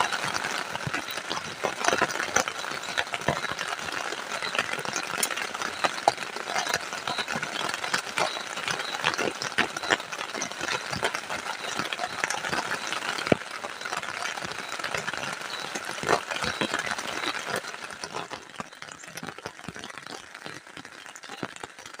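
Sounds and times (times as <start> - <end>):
heavy rain on a plastic tarp: 0.0 - 22.0.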